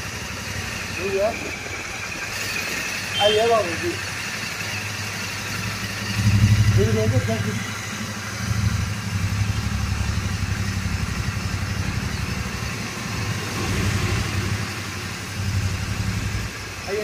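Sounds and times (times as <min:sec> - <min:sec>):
motorcycle engine running: 0:00.0 - 0:17.0
wind and road hiss: 0:00.0 - 0:17.0.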